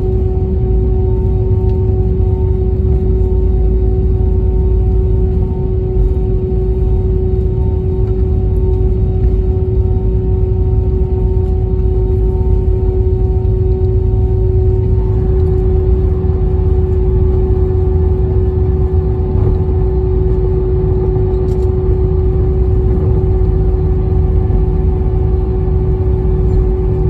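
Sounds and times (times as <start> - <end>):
airplane engines humming in cabin: 0.0 - 27.0.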